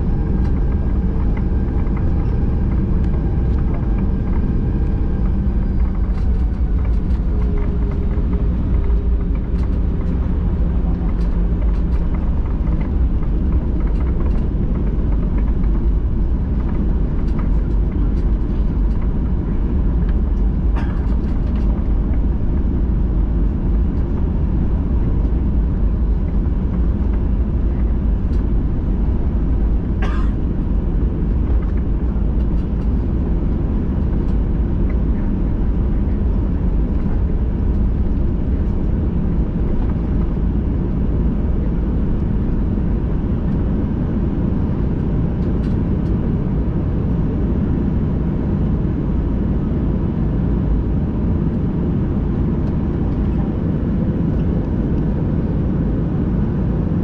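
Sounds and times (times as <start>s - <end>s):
airplane engines idling in cabin: 0.0s - 57.0s.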